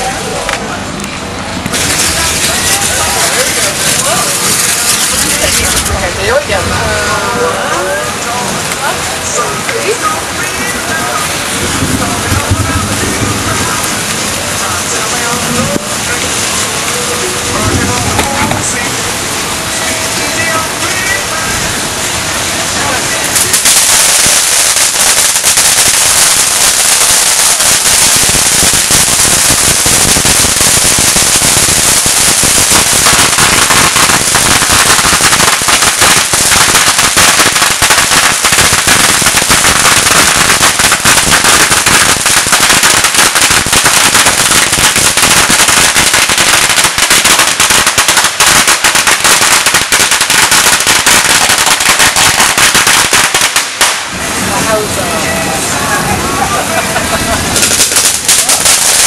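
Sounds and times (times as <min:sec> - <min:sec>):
firework crackling: 0:00.0 - 0:59.0
firework fountains hissing: 0:00.0 - 0:59.0.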